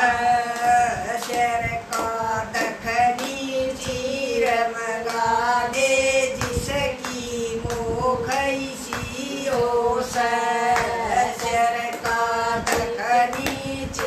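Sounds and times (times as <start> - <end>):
women singing together: 0.0 - 14.0
hands clapping in time: 0.6 - 5.2, 6.3 - 14.0.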